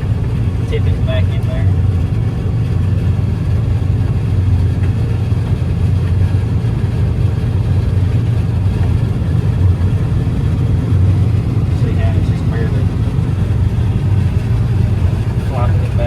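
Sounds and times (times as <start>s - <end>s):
combine engine and machinery drone: 0.0s - 16.0s.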